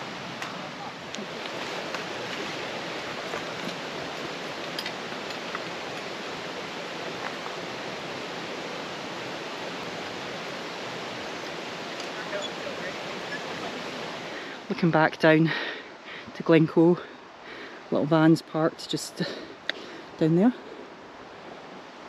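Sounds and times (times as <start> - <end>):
fast-flowing stream: 0.0 - 22.0.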